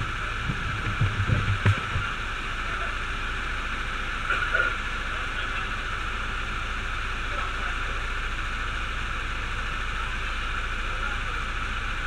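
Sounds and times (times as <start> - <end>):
muffled voices: 0.0 - 12.0.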